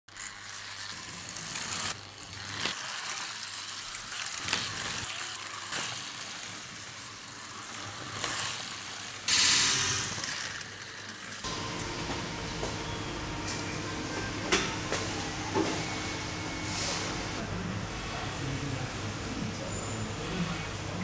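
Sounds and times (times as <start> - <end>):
slot car motors buzzing: 0.1 - 21.0.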